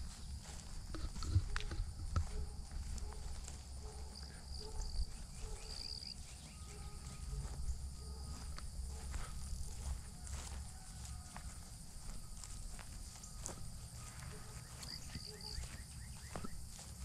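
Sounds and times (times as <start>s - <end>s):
footsteps through grass and leaves: 0.0s - 17.0s
insects chirping: 0.0s - 17.0s.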